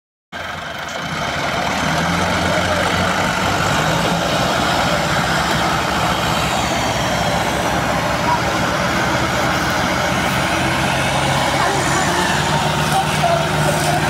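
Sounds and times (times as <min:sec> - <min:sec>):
tractor engines running under load: 0:00.4 - 0:14.0.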